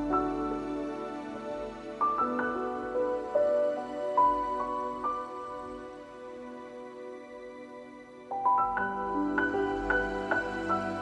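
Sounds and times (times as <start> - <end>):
gentle new-age music: 0.0 - 11.0.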